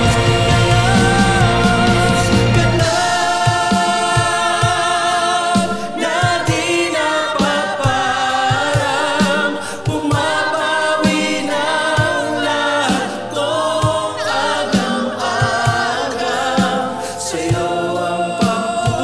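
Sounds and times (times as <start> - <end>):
band accompaniment: 0.0 - 19.0
group singing in harmony: 0.0 - 19.0
steady drum beat: 0.0 - 19.0.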